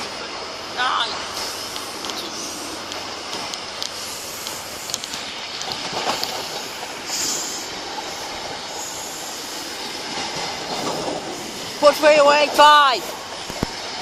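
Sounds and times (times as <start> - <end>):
train rail and wheel noise: 0.0 - 14.0.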